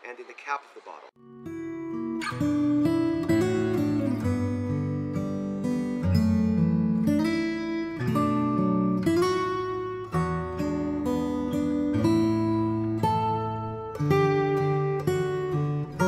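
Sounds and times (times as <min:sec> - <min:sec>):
acoustic guitar strumming: 0:01.2 - 0:16.0.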